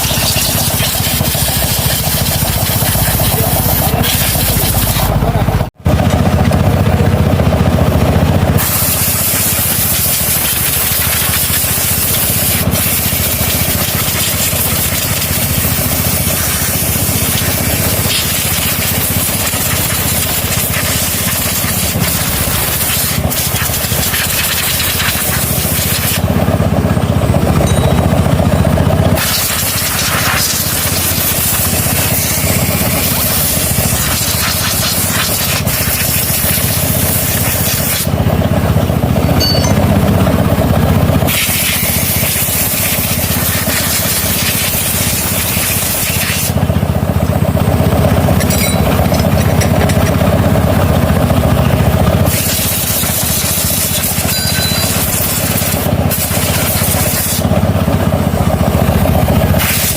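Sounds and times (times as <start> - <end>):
steady workshop hissing: 0.0 - 5.8, 8.5 - 26.4, 28.3 - 38.2, 40.8 - 50.5, 52.2 - 59.9.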